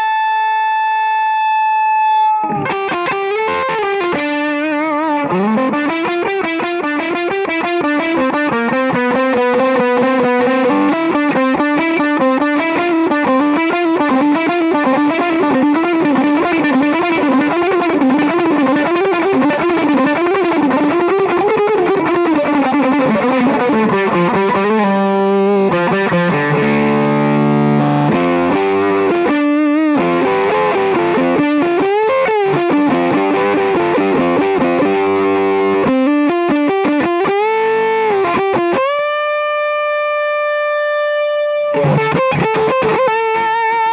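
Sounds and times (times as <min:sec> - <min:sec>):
fuzz electric guitar playing: 0:00.0 - 0:43.9.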